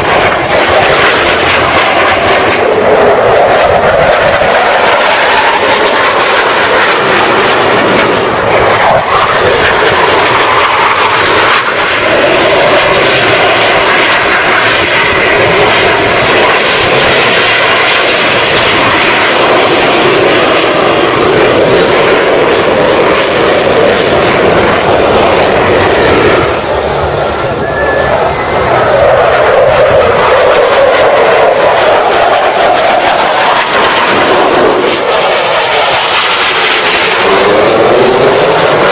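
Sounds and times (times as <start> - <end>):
jet engines roaring: 0.0 - 38.9.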